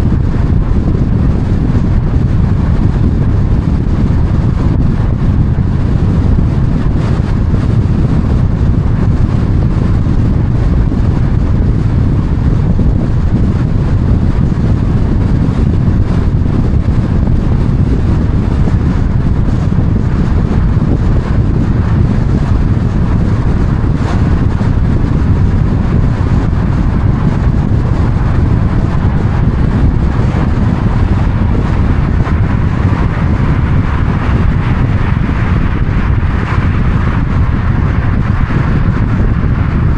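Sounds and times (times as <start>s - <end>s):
vehicle road and wind noise: 0.0s - 39.9s.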